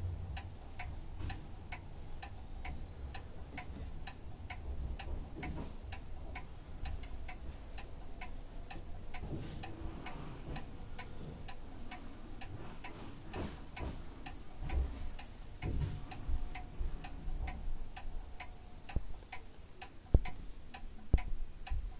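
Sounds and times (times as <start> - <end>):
clock ticking: 0.1 - 21.9.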